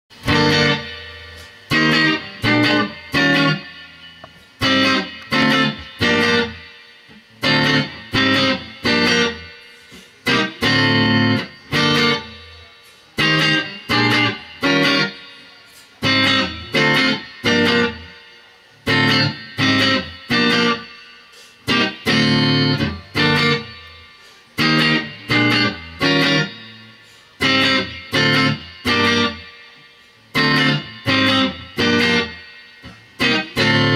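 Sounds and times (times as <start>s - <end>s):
electric guitar chord stabs: 0.1s - 33.9s.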